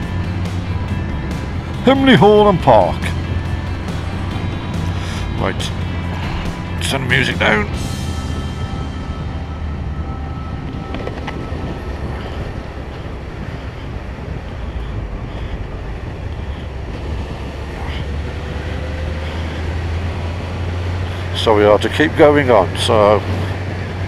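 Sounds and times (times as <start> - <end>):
rush of air: 0.0 - 21.4
motorcycle engine droning: 0.0 - 24.0.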